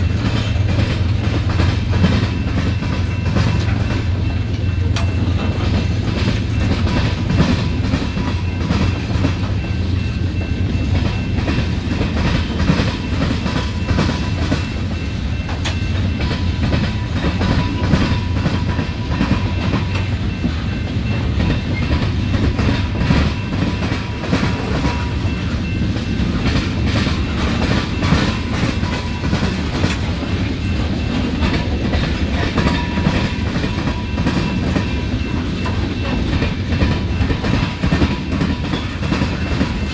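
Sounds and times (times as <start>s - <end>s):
freight train rumbling past: 0.0s - 39.9s
steel wheels clattering over track: 0.0s - 39.9s.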